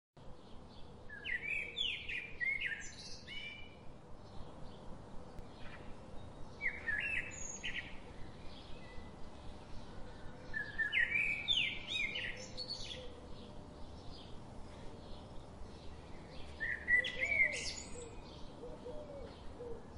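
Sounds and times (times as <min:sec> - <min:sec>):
bird singing: 0:00.2 - 0:19.9.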